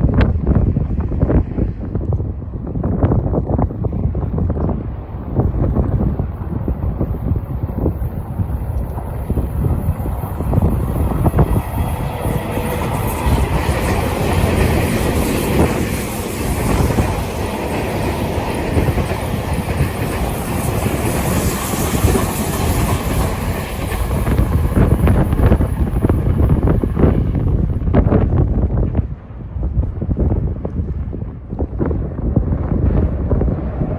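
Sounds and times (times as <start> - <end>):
wind buffeting microphone: 0.0 - 33.9
electric train passing: 1.4 - 29.9.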